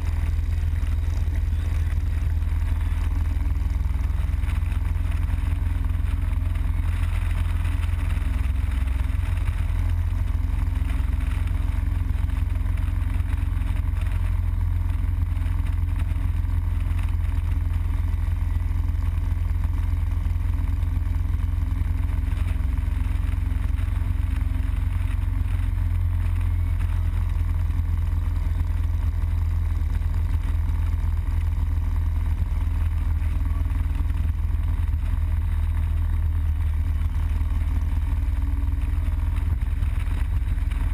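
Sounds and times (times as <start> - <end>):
motorcycle engine rumble: 0.0 - 40.9
road and air noise: 0.0 - 40.9.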